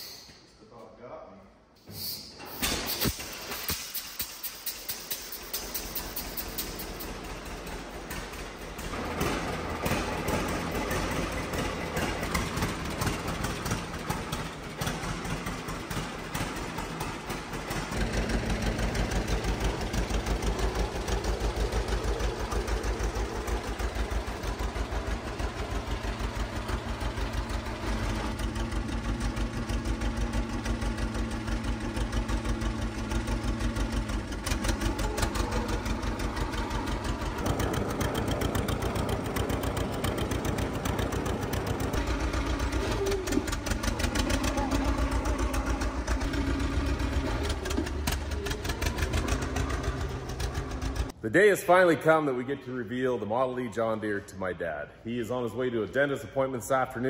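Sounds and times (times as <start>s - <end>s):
two-cylinder tractor engine running: 5.0s - 51.2s.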